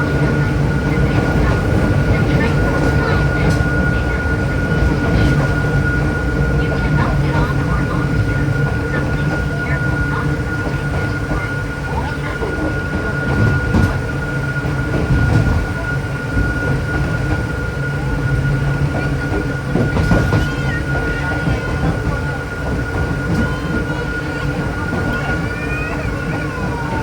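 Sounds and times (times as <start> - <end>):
railcar motors and wheels rumbling: 0.0 - 27.0.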